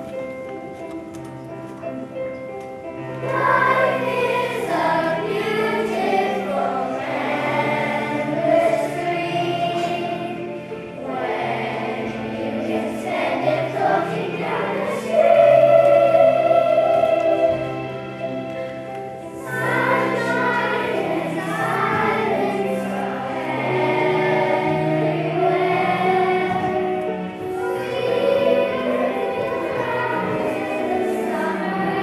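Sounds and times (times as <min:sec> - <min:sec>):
children's choir singing: 0:02.9 - 0:32.0.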